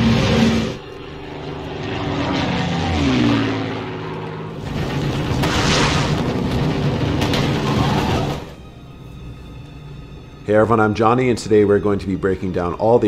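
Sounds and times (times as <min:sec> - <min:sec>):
propeller aircraft droning: 0:00.0 - 0:13.0.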